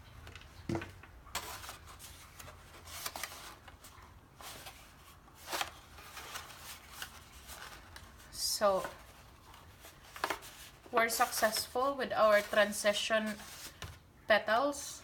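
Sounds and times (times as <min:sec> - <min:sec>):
paper rustling and crinkling: 0:00.4 - 0:14.0.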